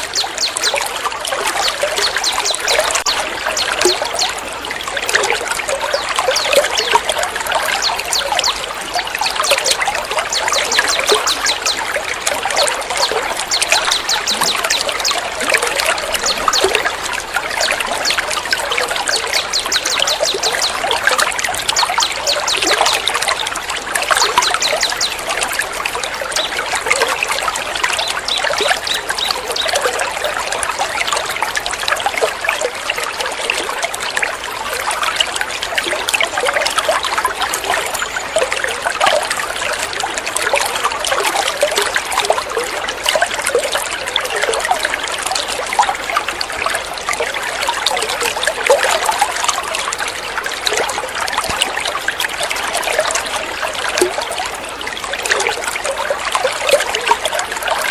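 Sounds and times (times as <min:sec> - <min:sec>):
water trickling and splashing: 0:00.0 - 0:57.9.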